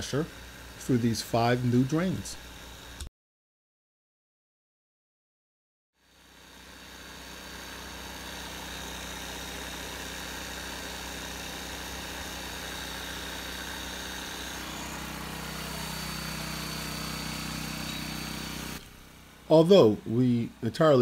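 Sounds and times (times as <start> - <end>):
constant high whine: 0.0 - 3.1, 6.2 - 21.0.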